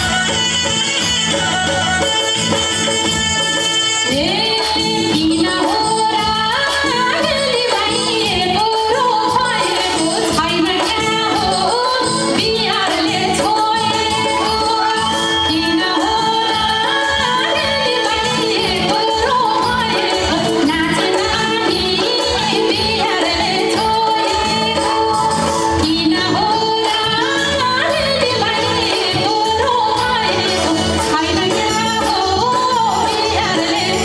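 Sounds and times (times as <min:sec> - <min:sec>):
amplified instrumental accompaniment: 0:00.0 - 0:34.0
woman singing folk song: 0:04.1 - 0:34.0.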